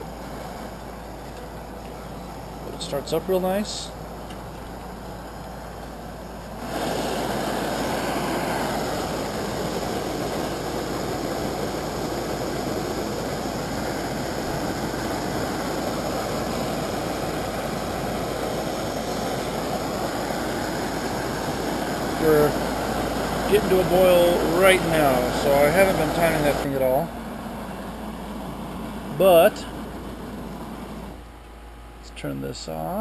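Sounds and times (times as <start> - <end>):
camping stove hissing: 0.0 - 31.4.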